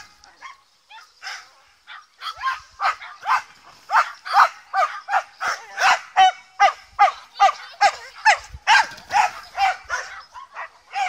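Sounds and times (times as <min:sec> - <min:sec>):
dog barking: 0:00.3 - 0:11.0.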